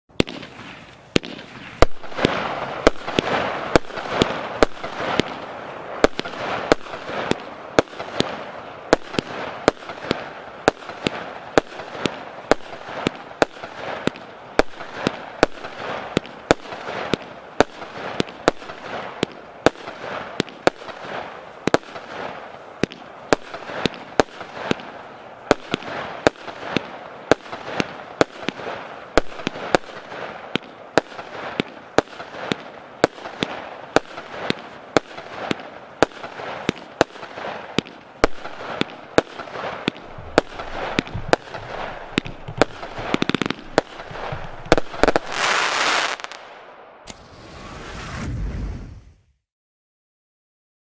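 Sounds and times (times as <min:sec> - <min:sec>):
continuous hiss: 0:00.1 - 0:47.4
firework bangs: 0:00.1 - 0:49.2.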